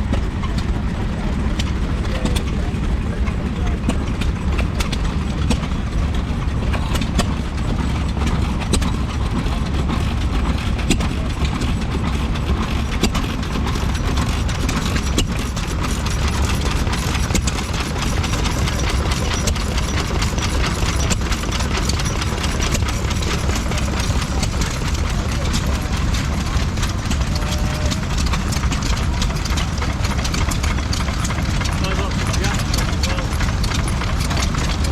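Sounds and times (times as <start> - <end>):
stationary engine running: 0.0 - 34.9.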